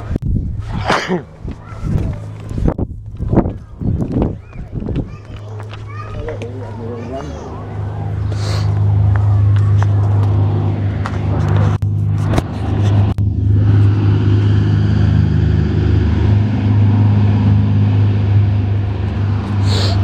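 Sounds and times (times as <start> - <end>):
engine running low rumble: 0.0 - 20.0.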